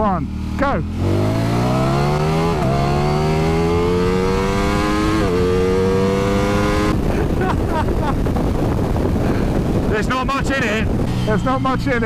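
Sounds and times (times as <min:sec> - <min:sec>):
motorcycle engines accelerating: 0:00.0 - 0:12.0.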